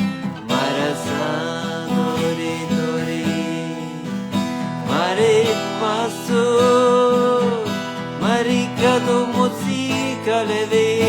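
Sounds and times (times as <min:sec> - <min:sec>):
acoustic guitar music: 0:00.0 - 0:11.0
person singing: 0:00.4 - 0:11.0.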